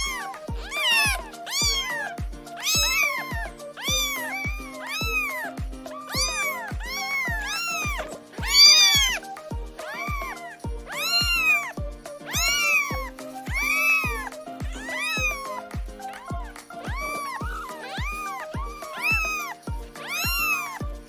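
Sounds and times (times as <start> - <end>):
cat meowing: 0.0 - 21.0
music with steady beat: 0.0 - 21.0.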